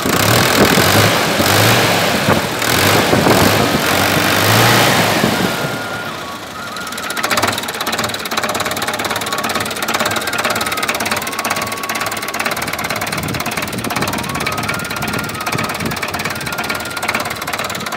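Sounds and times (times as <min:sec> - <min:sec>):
tractor diesel engine idling: 0:00.0 - 0:17.9.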